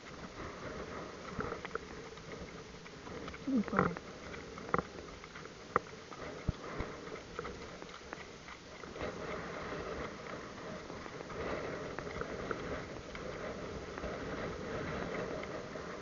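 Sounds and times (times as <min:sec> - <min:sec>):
rain pattering: 0:00.0 - 0:16.0
wind on microphone: 0:00.0 - 0:16.0.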